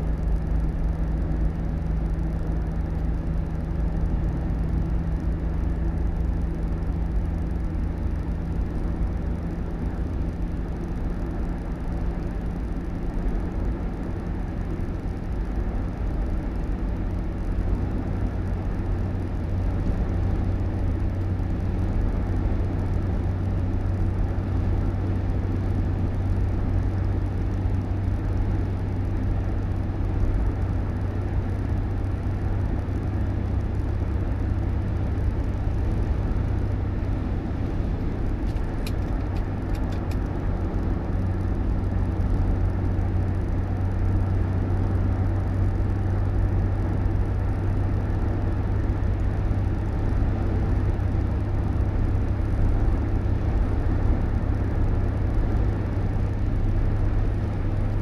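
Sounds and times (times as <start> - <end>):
vehicle rumbling: 0.0 - 58.0.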